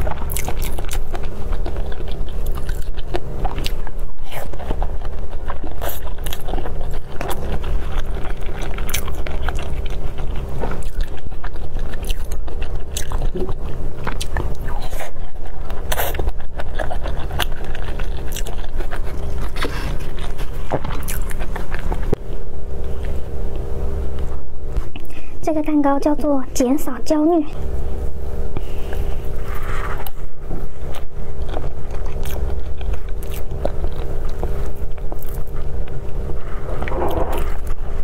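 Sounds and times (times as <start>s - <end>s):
chewing and biting soft bun: 0.0s - 22.2s, 28.8s - 38.0s
low hum: 0.0s - 38.0s.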